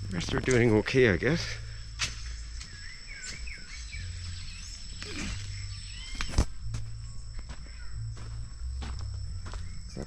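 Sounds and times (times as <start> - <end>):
birds chirping: 0.0 - 10.0
high-pitched insect drone: 0.0 - 10.0.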